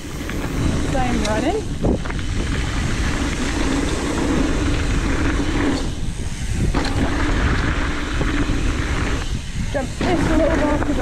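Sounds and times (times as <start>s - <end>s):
bike tyres rumbling on dirt: 0.0s - 11.0s
wind buffeting microphone: 0.0s - 11.0s.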